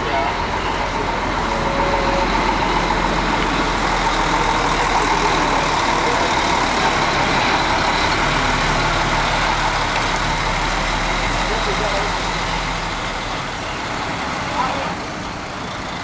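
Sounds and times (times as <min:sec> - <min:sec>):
diesel bus engine running: 0:00.0 - 0:16.0.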